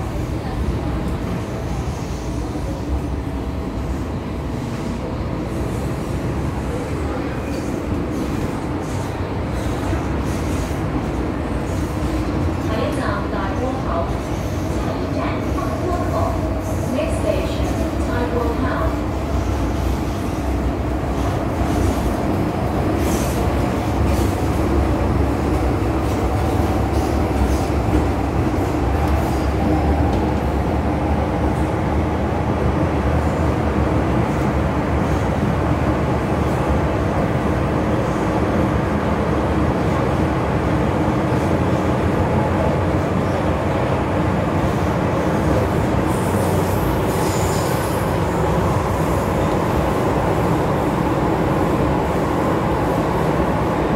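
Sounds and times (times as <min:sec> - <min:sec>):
train wheel and motor noise: 0:00.0 - 0:53.9.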